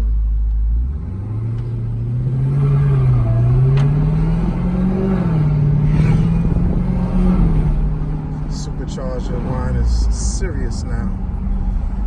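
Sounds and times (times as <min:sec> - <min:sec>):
car engine revving: 0:00.6 - 0:12.0.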